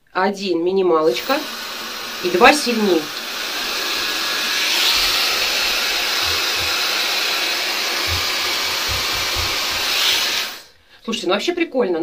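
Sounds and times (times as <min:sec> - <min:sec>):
hair dryer air rushing: 0:01.1 - 0:10.8.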